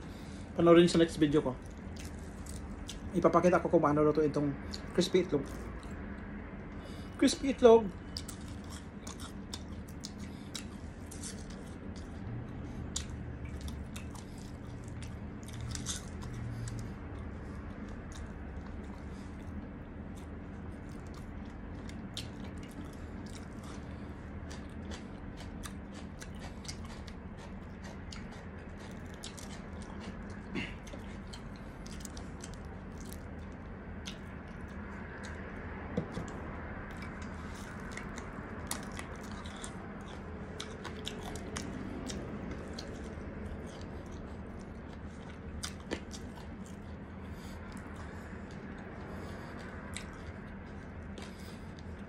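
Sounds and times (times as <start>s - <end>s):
chewing crispy fried food: 0.0s - 52.0s
steady low hum: 0.0s - 52.0s.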